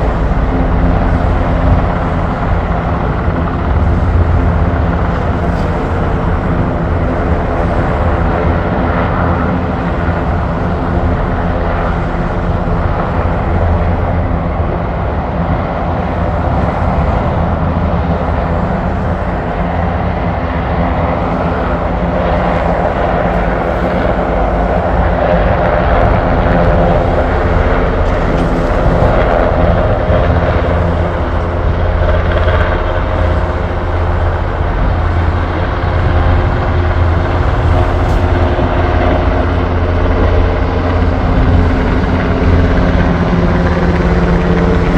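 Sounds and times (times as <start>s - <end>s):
helicopter rotor drone: 0.0s - 44.9s.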